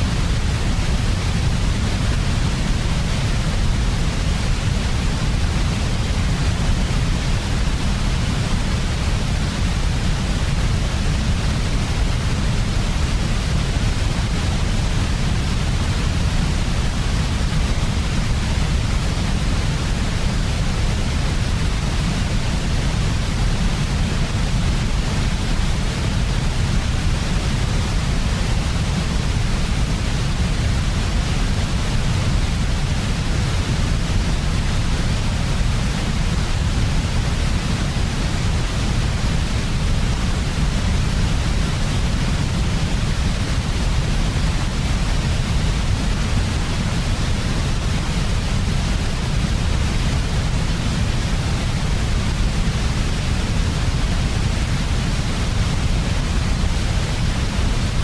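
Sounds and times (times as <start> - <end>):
white noise with deep rumble: 0.0 - 58.0.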